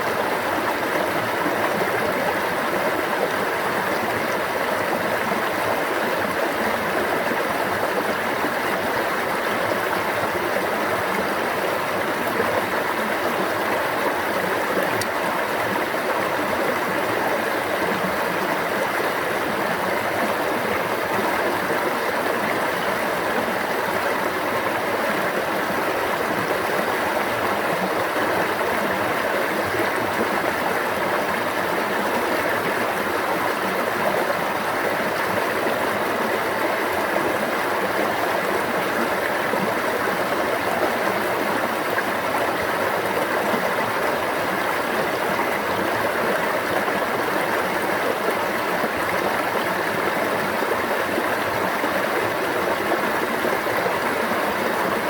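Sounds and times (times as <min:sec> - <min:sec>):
stream water babbling: 0:00.0 - 0:55.0.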